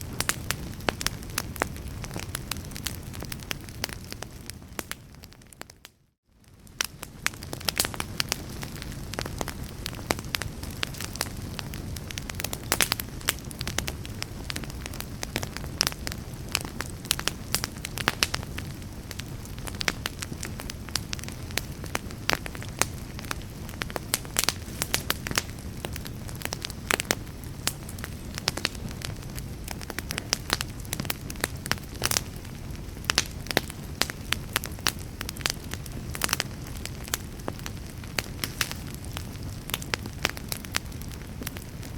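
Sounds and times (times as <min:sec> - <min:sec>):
fire rumble: 0:00.0 - 0:41.9
wood fire crackling: 0:00.0 - 0:41.9.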